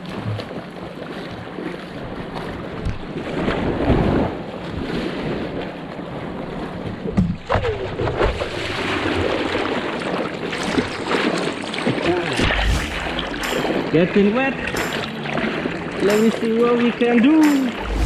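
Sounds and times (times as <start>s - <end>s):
surf sloshing around surfboard: 0.0s - 18.0s
water splashing: 0.0s - 18.0s.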